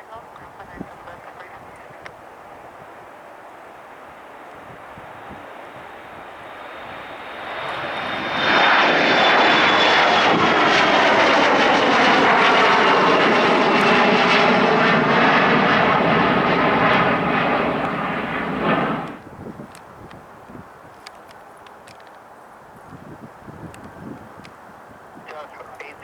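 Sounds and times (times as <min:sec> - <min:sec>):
jet airliner passing: 0:00.0 - 0:19.3, 0:23.3 - 0:26.0.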